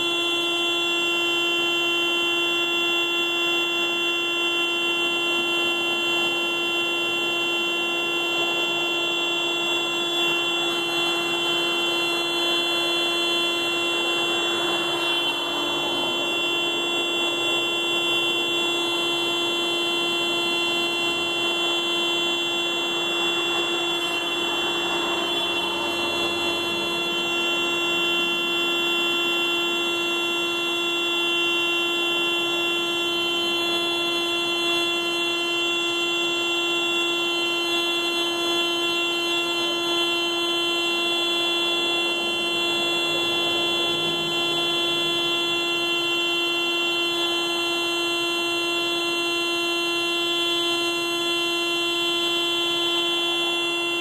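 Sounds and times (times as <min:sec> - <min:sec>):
car alarm steady tone: 0:00.0 - 0:54.0.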